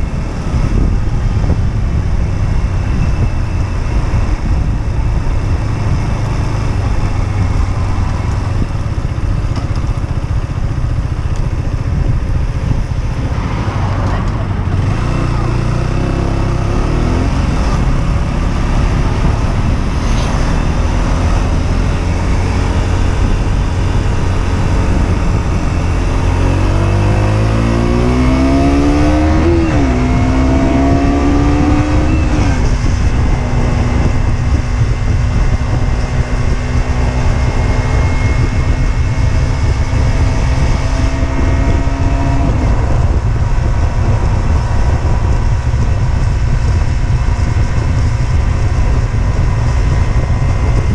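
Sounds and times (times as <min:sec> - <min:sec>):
motorcycle engine revving: 0:00.0 - 0:50.9
wind rush: 0:00.0 - 0:50.9.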